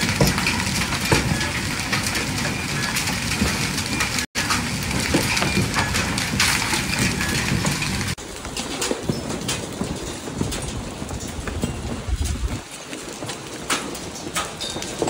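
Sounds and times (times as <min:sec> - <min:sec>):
hailstones pelting on paving: 0:00.0 - 0:15.0.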